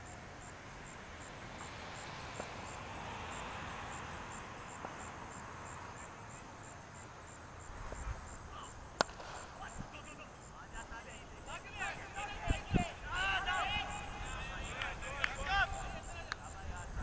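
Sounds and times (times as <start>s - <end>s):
insects chirping: 0.0s - 17.0s
steady outdoor hiss: 0.0s - 17.0s.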